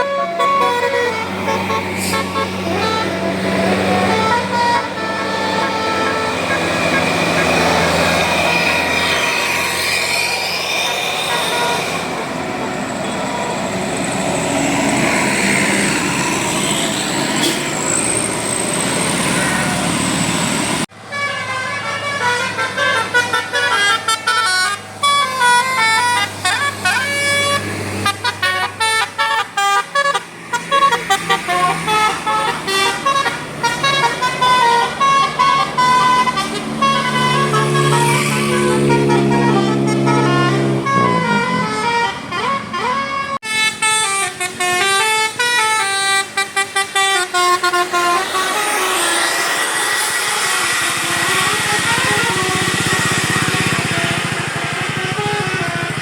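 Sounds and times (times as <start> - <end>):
bus multi-tone air horn tune: 0.0 - 56.0
traffic noise: 0.0 - 56.0.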